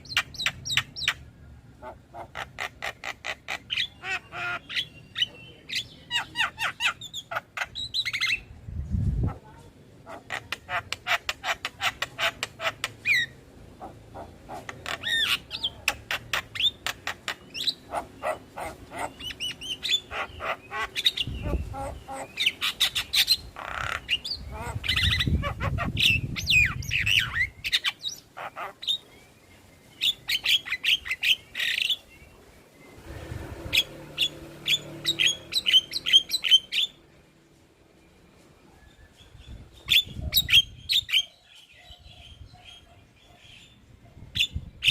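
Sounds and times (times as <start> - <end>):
myna chirping: 0.0 - 37.3, 38.0 - 44.9.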